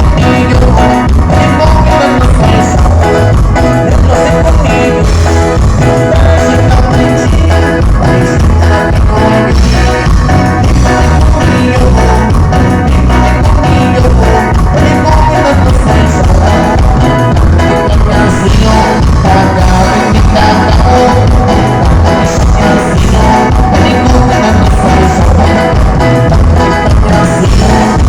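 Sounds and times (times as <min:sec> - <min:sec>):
heavy pulsing bass: 0:00.0 - 0:28.0
loud music through sound system: 0:00.0 - 0:28.0.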